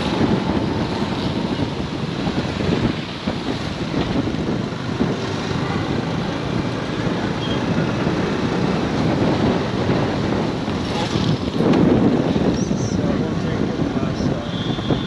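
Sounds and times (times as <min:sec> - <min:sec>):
street traffic: 0:00.0 - 0:15.0
wind noise on microphone: 0:00.0 - 0:15.0.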